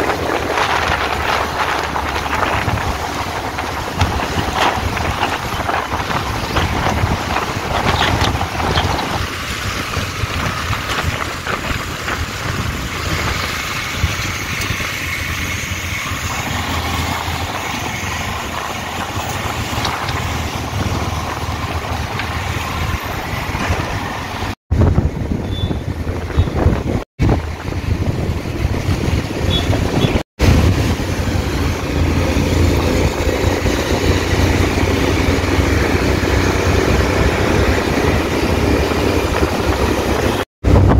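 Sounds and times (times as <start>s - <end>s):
tyres on a wet road: 0.0s - 40.9s
wind blowing over microphone: 0.0s - 40.9s.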